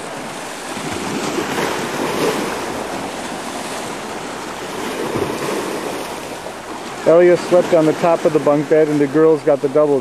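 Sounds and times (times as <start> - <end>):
waves washing on rocky shore: 0.0 - 10.0.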